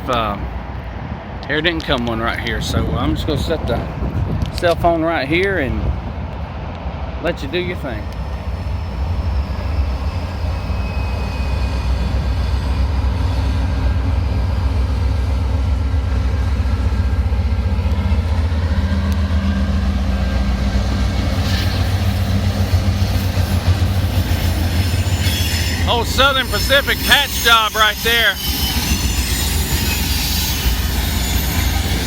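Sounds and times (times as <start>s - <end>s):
diesel locomotive engine rumble: 0.0s - 32.0s.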